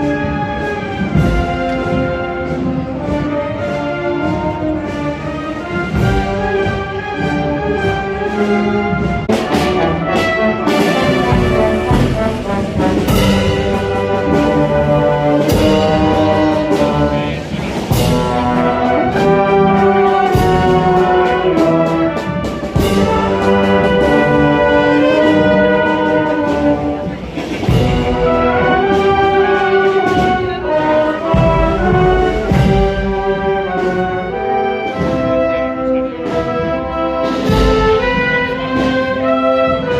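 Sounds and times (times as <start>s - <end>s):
brass band playing slow march: 0.0s - 39.9s
drum beats: 0.0s - 39.9s.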